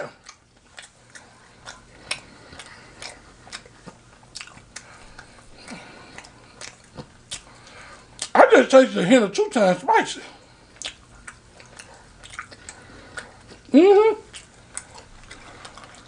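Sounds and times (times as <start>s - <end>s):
person chewing: 0.0s - 8.4s, 10.4s - 16.0s.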